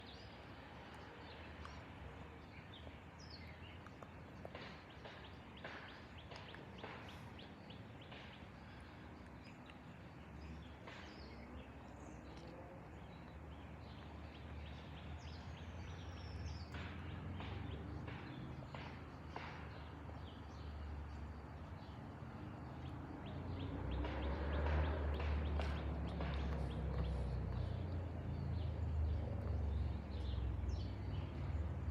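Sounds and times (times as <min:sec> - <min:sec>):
bird chirps: 0:00.0 - 0:31.9.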